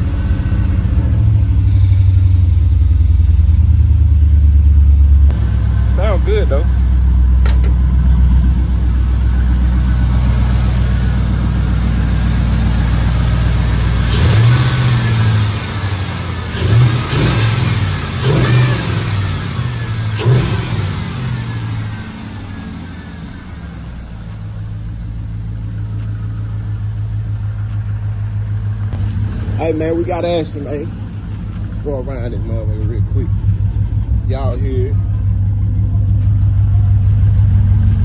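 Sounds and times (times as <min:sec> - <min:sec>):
car engine idling and revving: 0:00.0 - 0:38.0.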